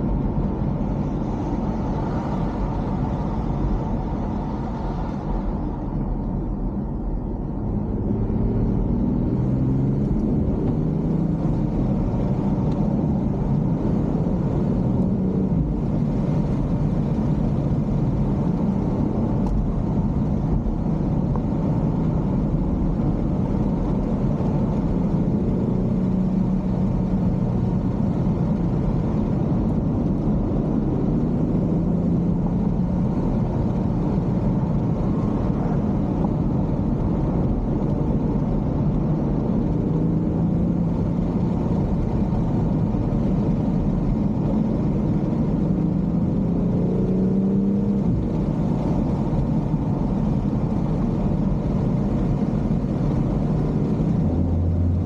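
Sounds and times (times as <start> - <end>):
car engine driving: 0.0 - 55.0
tyre and road noise: 0.0 - 55.0.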